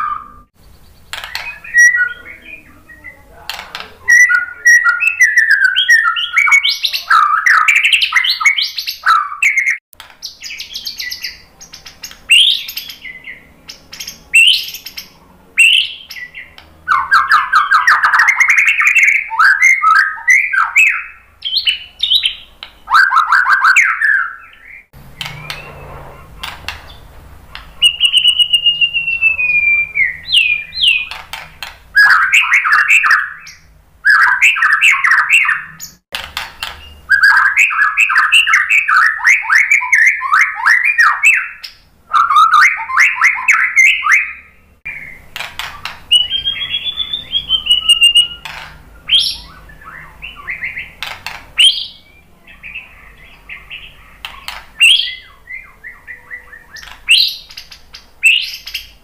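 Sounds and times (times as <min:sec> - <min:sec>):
bird singing trills and whistles: 0:00.0 - 0:36.0, 0:36.6 - 0:59.0.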